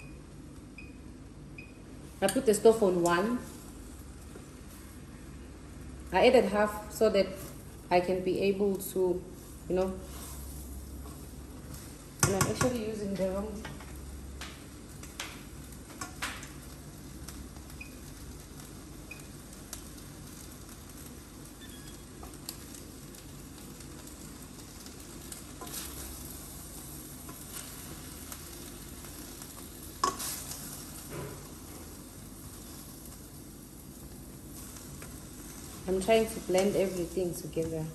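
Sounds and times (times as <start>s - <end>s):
food sizzling in a frying pan: 2.0s - 37.9s.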